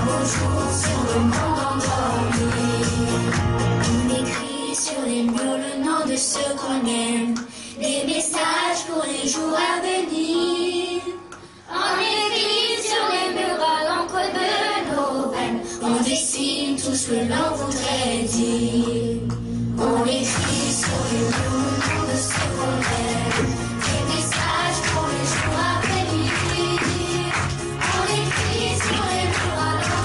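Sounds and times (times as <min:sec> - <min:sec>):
children singing: 0:00.0 - 0:03.3, 0:04.1 - 0:19.2, 0:19.8 - 0:30.0.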